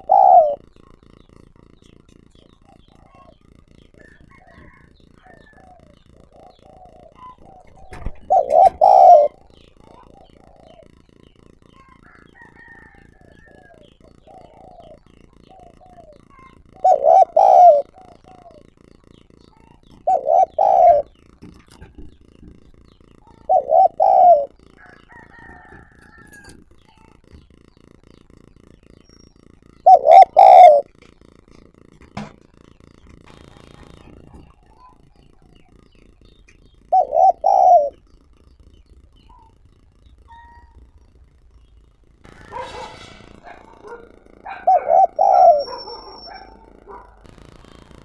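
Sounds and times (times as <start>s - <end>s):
doves cooing: 0.0s - 48.0s.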